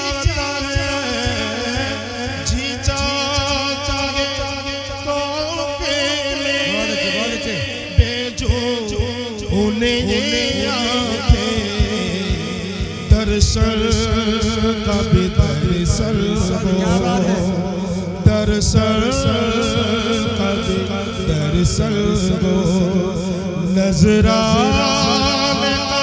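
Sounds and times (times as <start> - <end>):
man singing into microphone: 0.0 - 26.0.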